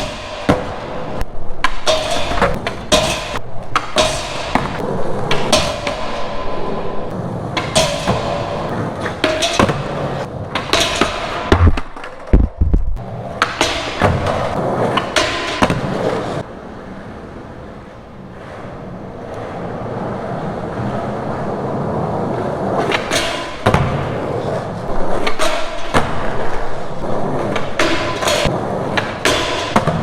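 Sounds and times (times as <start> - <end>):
skateboard clacks and landing knocks: 0.0 - 16.5, 18.2 - 30.0
skateboard wheels rolling on concrete: 0.0 - 30.0.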